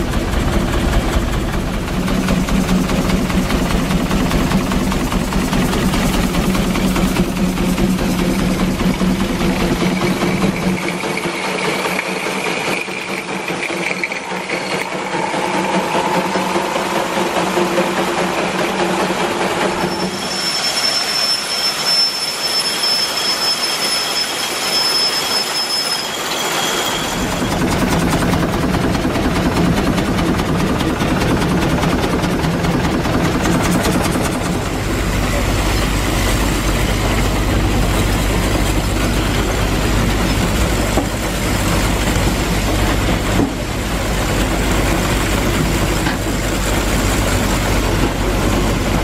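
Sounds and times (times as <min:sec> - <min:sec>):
threshing machine running: 0:00.0 - 0:18.8, 0:27.1 - 0:49.0
machinery rattle: 0:00.0 - 0:19.8, 0:26.5 - 0:49.0.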